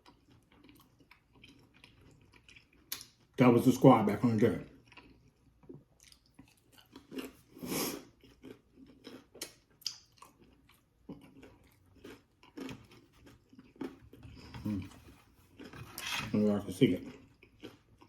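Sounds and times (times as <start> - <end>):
person chewing with wet mouth smacks: 0.0 - 3.3, 4.7 - 16.1, 17.0 - 18.0.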